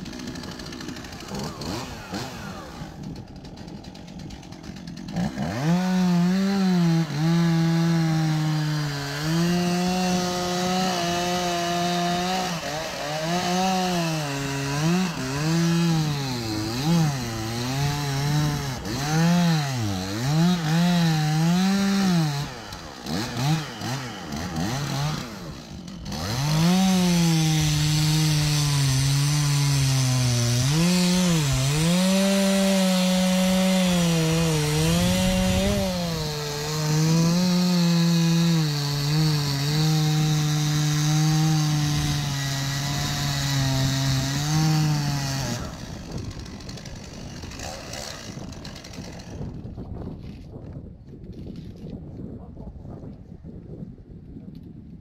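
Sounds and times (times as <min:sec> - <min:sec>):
chainsaw cutting into tree: 0:00.0 - 0:52.0.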